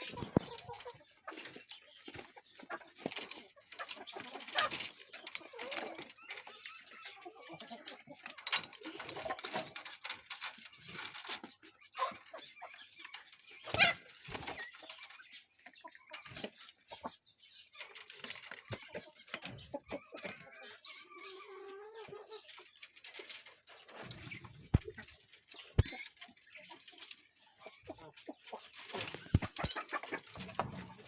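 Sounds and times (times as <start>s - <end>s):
birds scuffling and rustling: 0.0s - 31.0s.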